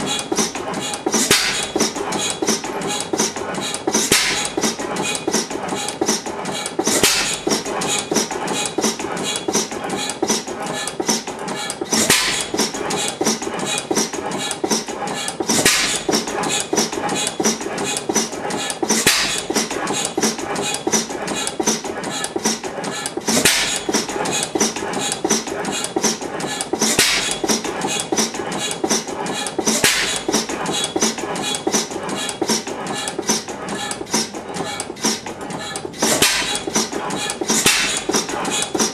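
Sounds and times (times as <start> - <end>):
stationary gas engine running: 0.0 - 38.9.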